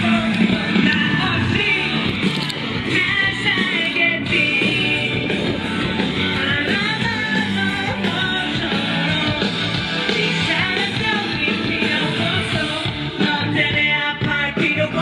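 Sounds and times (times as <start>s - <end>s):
live rock band music: 0.0s - 15.0s
male lead vocal: 0.0s - 15.0s.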